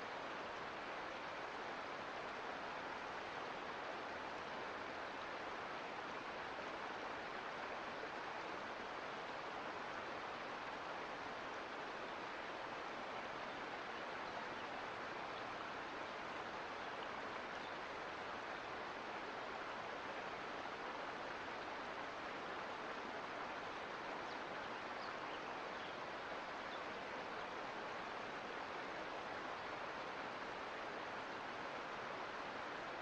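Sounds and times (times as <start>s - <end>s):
creek flowing over rocks: 0.0s - 33.0s.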